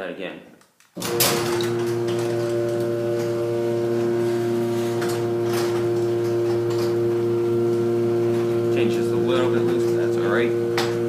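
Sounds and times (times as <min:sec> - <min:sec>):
garage door opener motor humming: 0:01.0 - 0:11.0.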